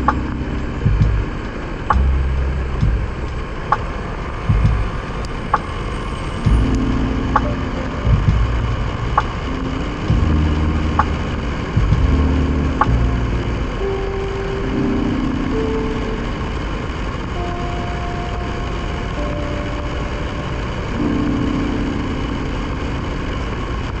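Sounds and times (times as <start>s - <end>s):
motorcycle engine running: 0.0s - 5.7s, 6.4s - 21.8s
wind and road noise: 0.0s - 24.0s.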